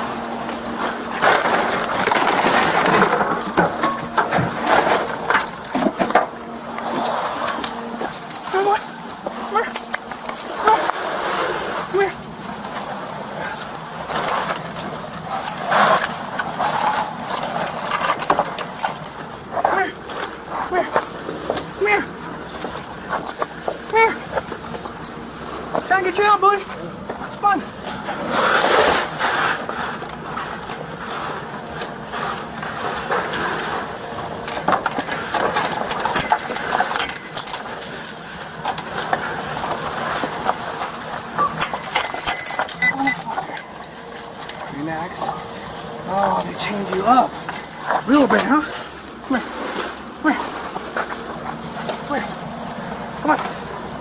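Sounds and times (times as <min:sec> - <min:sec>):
metal chain clinking: 0:00.6 - 0:06.3, 0:08.0 - 0:10.8, 0:11.9 - 0:31.0, 0:33.1 - 0:54.0.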